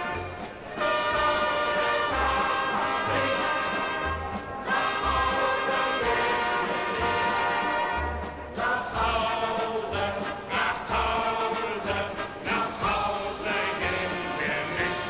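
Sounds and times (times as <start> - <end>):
brass band sing-along music: 0.0 - 15.0.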